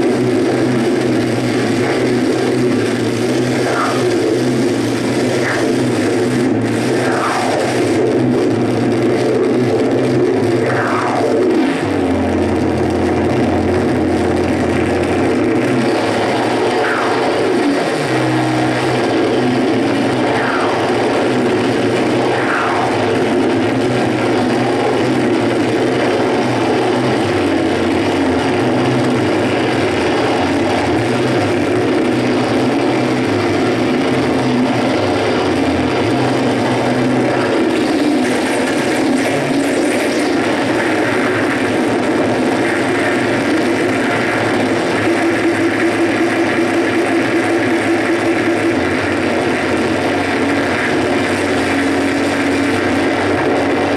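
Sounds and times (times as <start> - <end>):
electronic noise music: 0.0 - 53.9
low shifting drone: 0.0 - 53.9.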